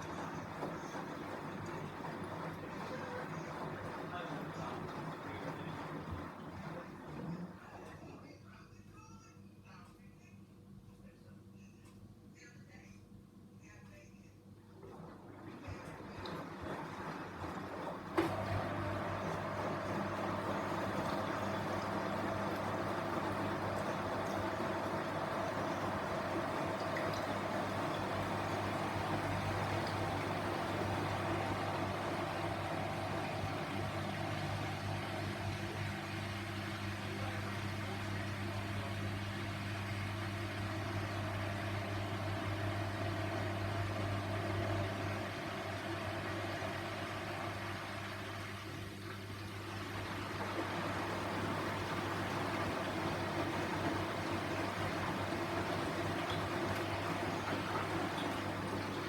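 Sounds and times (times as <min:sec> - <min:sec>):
washing machine humming: 0:00.0 - 0:10.0, 0:13.1 - 0:59.0.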